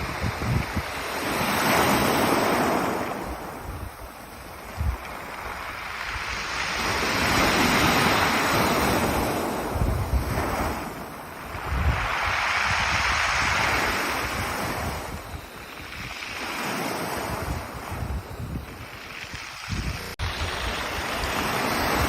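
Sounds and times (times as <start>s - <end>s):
waves washing on pebble beach: 0.0s - 22.0s
wind buffeting microphone: 0.0s - 22.0s.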